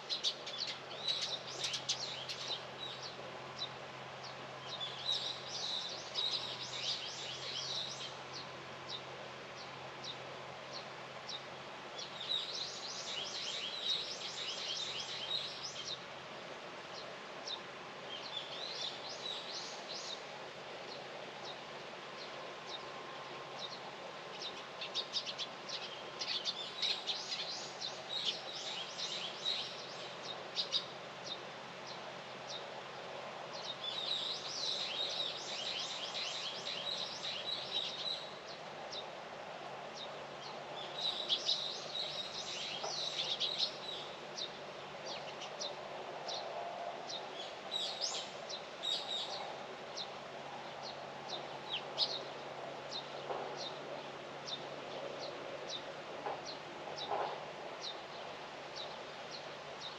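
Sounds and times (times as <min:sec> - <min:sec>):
small birds chirping: 0:00.0 - 0:16.0, 0:20.9 - 0:32.7, 0:33.5 - 0:39.2, 0:39.9 - 0:46.5, 0:47.1 - 0:59.9
outdoor background hum: 0:00.0 - 0:59.9.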